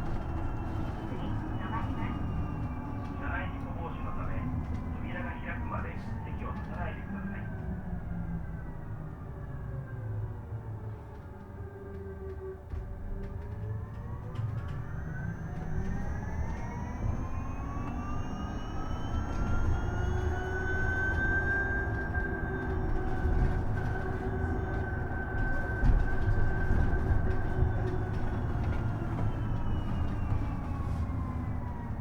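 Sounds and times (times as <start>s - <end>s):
electric bus motor whining: 0.0s - 32.0s
low road rumble: 0.0s - 32.0s.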